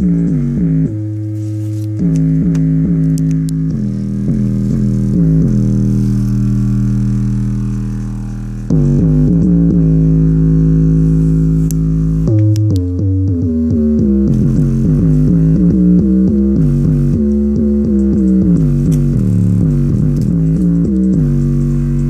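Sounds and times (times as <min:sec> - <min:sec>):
synthesizer music with heavy bass: 0:00.0 - 0:22.0.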